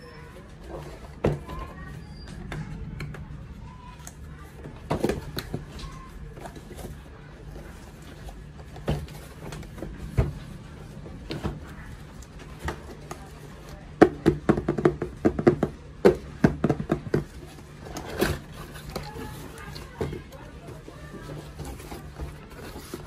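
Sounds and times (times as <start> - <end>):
steady low hum: 0.2 - 23.0.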